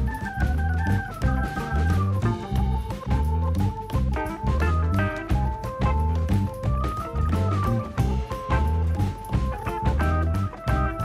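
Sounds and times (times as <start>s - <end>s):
instrumental music with bass line: 0.0s - 11.0s.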